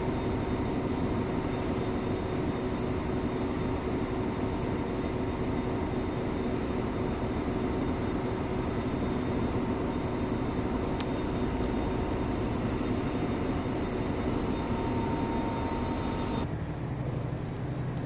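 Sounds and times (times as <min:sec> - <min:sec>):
diesel train idling: 0:00.0 - 0:18.0.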